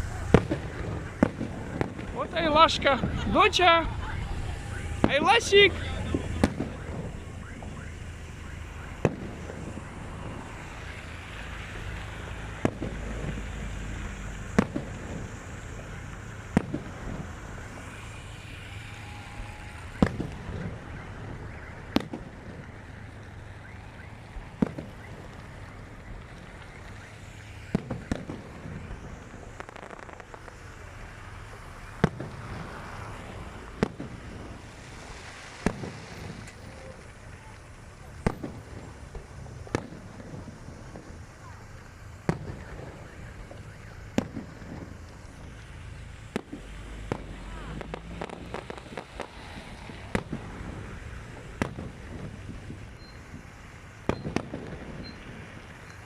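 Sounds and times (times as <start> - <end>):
steady background rumble: 0.0 - 54.0
fireworks bangs: 0.0 - 56.0.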